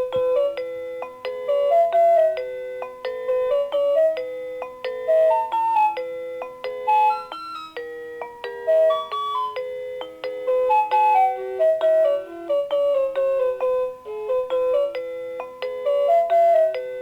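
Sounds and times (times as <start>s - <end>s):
alarm clock melody: 0.0s - 17.0s.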